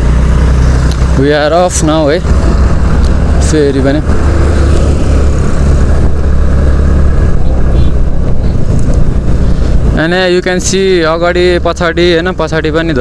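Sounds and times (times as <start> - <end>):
motorcycle engine rumble: 0.0 - 13.0
road and wind noise: 0.0 - 13.0.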